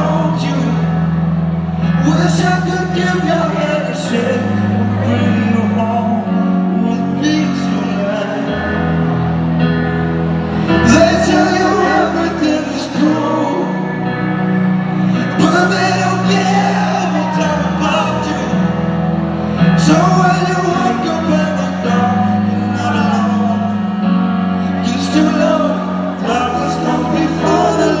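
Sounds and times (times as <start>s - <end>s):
bass notes: 0.0s - 28.0s
person singing: 0.0s - 28.0s.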